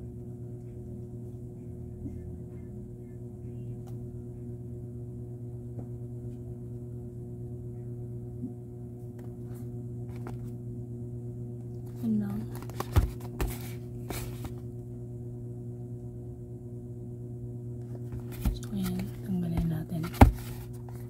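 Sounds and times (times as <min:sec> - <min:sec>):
buzzy electrical hum: 0:00.0 - 0:21.0.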